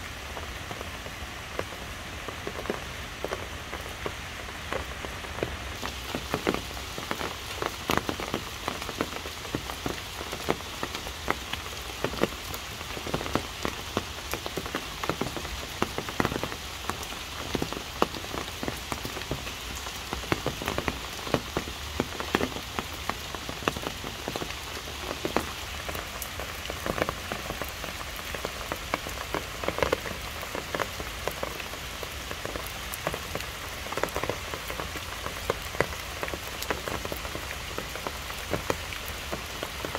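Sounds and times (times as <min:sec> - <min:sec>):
rain falling on leaves and path: 0:00.0 - 0:39.9.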